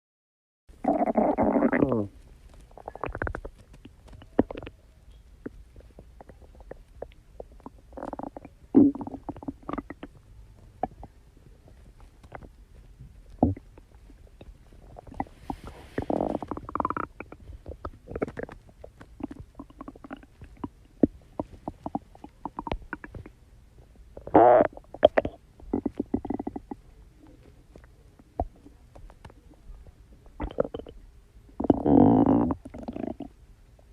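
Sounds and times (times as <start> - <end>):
stomach gurgles and pops: 0.8 - 23.4, 24.1 - 33.9
stomach growling: 0.8 - 33.9.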